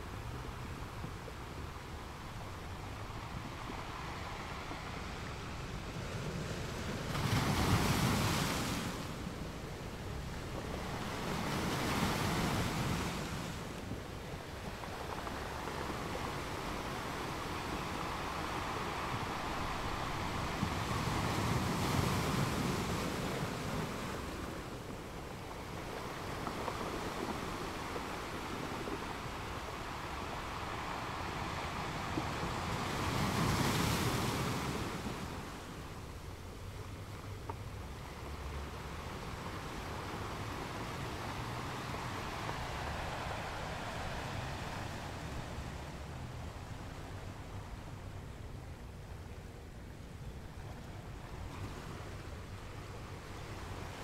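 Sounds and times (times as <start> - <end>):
ocean waves washing in: 0.0 - 54.0.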